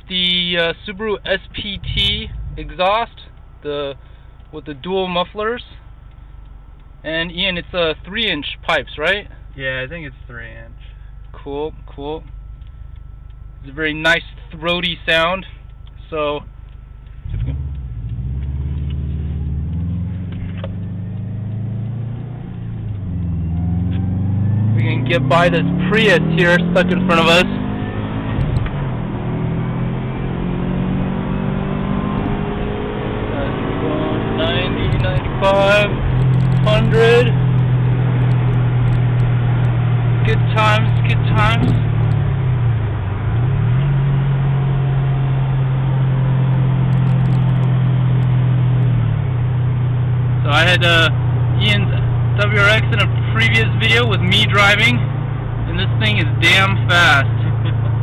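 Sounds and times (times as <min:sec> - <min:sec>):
car engine droning from inside cabin: 0:00.0 - 0:58.0
road noise: 0:00.0 - 0:58.0.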